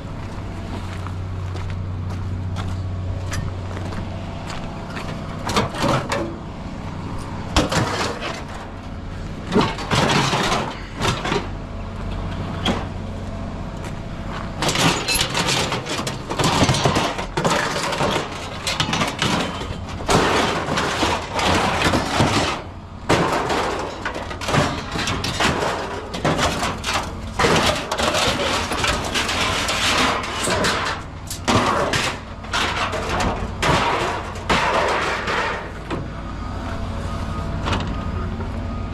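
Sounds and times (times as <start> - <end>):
steady engine hum: 0.0 - 38.9
scrap metal clanking and crashing: 2.6 - 13.0, 13.7 - 36.2.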